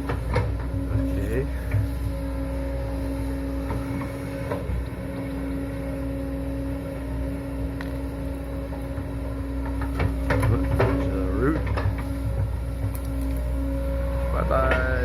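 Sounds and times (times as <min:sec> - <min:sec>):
engine droning hum: 0:00.0 - 0:15.0.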